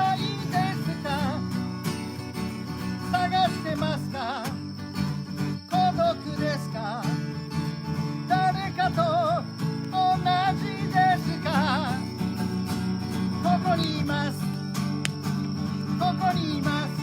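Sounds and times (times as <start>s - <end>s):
acoustic guitar accompaniment: 0.0s - 17.0s.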